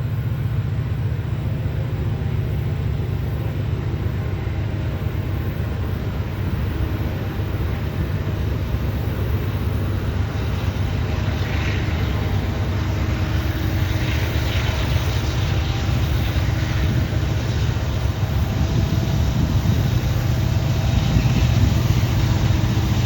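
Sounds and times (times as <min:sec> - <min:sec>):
diesel locomotives under load: 0:00.0 - 0:23.0.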